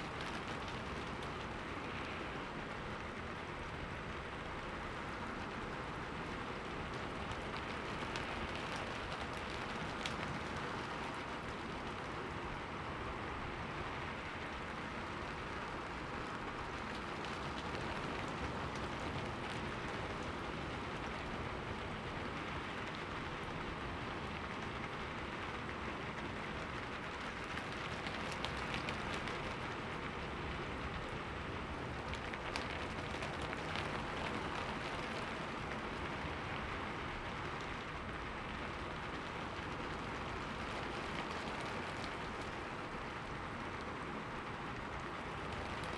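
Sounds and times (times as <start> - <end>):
rain on a window: 0.0 - 45.9.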